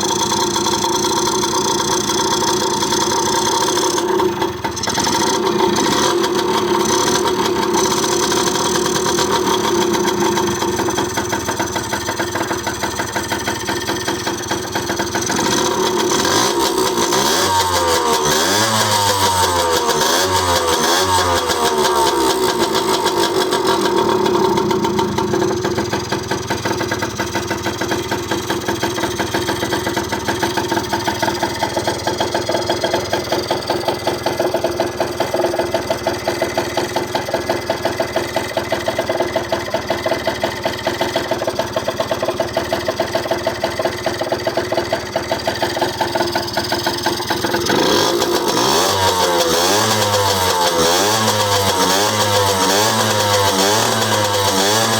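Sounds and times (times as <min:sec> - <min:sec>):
dirt bike engine idling and revving: 0:00.0 - 0:54.9.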